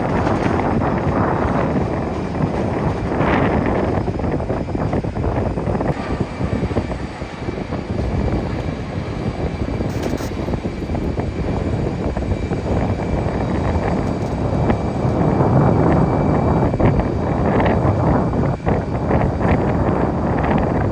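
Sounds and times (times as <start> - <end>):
jet airliner engine rumble: 0.0 - 20.9.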